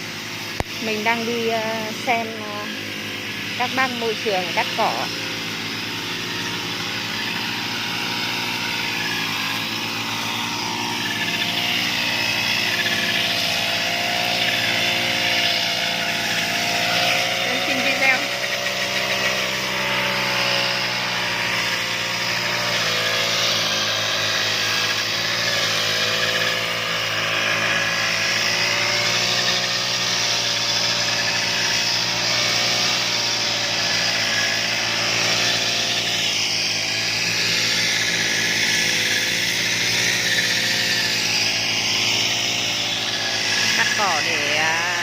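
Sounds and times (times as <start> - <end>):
petrol lawn mower running: 0.0 - 45.0.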